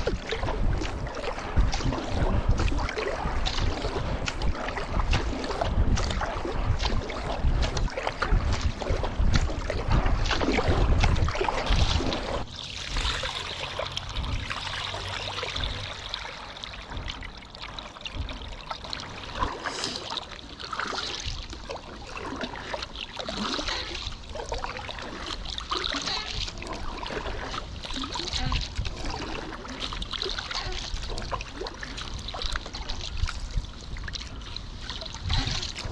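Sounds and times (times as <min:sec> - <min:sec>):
wind buffeting microphone: 0:00.0 - 0:17.4, 0:23.6 - 0:35.9
paddle splashing water: 0:00.0 - 0:35.9.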